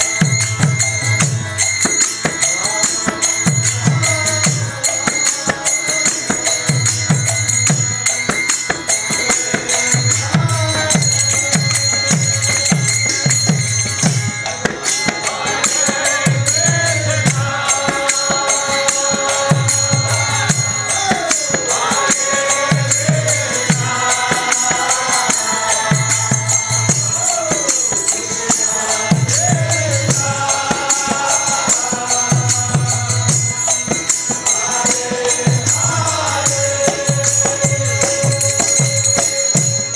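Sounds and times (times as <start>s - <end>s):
group singing devotional chant: 0.0s - 39.9s
small hand cymbals jingling: 0.0s - 39.9s.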